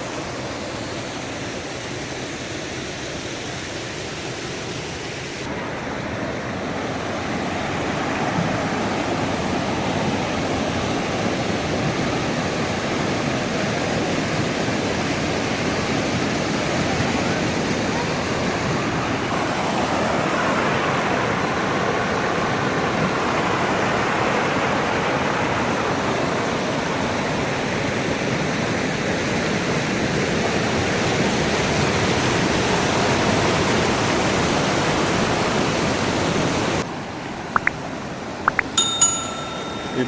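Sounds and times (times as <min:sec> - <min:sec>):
waterfall rushing: 0:00.0 - 0:29.0, 0:29.8 - 0:40.0.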